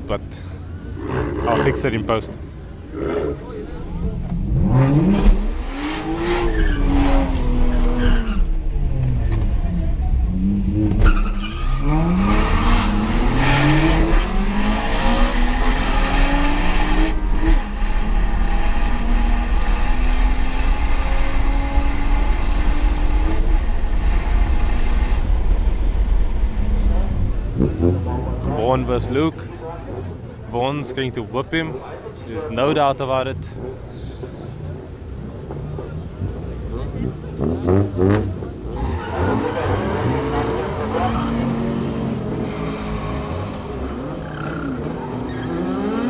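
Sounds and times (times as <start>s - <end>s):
car engine revving: 0.0s - 30.4s, 33.3s - 46.0s.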